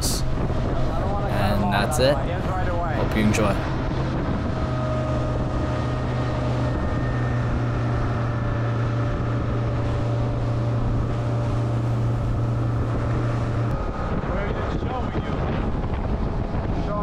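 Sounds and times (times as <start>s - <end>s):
motorboat engine running: 0.0s - 17.0s
rushing wind and water: 0.0s - 17.0s.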